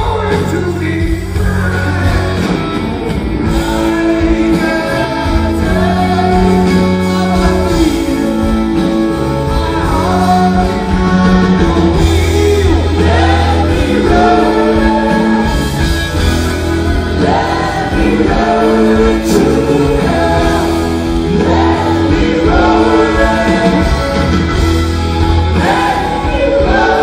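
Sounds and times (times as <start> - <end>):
live rock band with vocals: 0.0 - 27.0
stadium crowd: 0.0 - 27.0.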